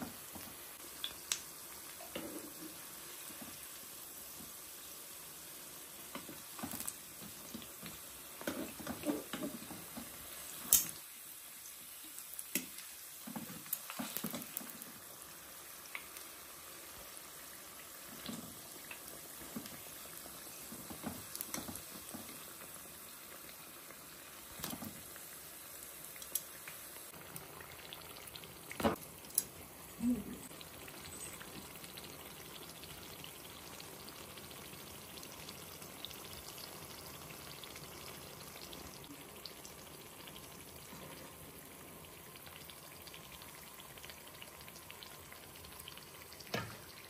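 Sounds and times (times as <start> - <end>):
fritters deep-frying in oil: 0.0 - 47.0.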